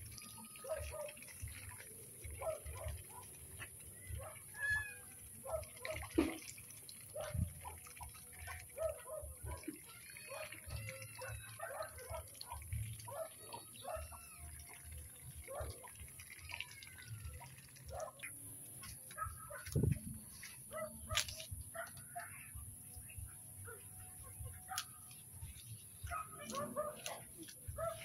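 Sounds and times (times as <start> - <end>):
ducks dabbling in wet mud: 0.0 - 28.0
ducks quacking and chattering: 0.0 - 28.0.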